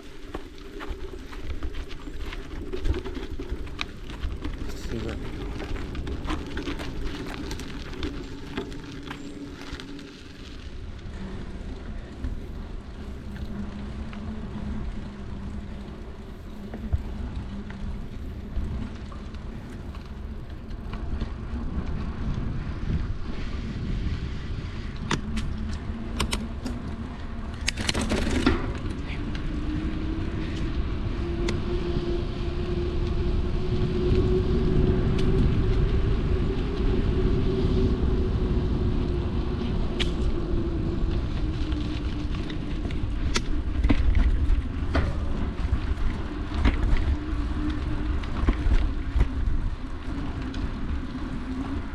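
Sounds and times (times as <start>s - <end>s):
bike clicks and rattles: 0.0s - 31.8s, 32.6s - 51.9s
wind rumble on microphone: 0.0s - 51.9s.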